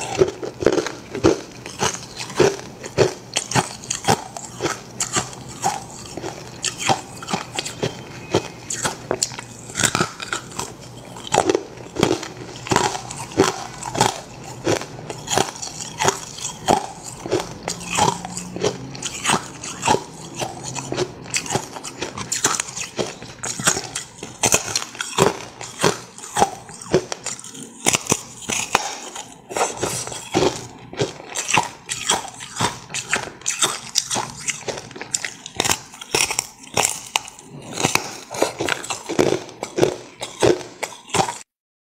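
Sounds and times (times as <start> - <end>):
chewing: 0.0 - 41.5.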